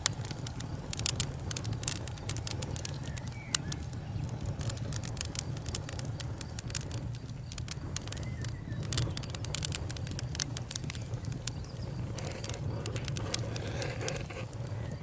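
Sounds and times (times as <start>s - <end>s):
burning wood popping and snapping: 0.0s - 15.0s
fire low rumble: 0.0s - 15.0s.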